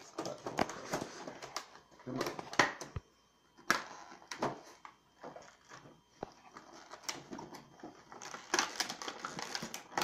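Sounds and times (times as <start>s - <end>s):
cardboard and plastic rustling: 0.0s - 3.0s, 3.6s - 10.0s.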